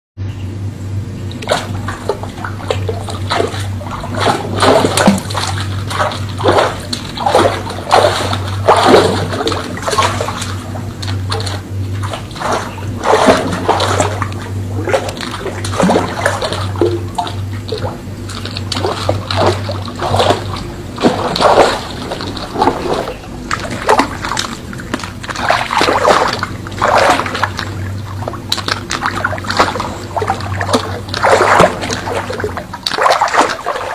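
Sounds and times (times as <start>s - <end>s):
steady low hum: 0.2s - 33.9s
river water splashing: 1.3s - 33.9s.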